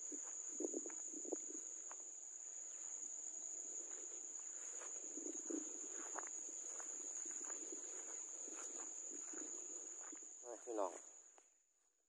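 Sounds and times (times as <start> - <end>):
insects trilling: 0.0 - 11.4.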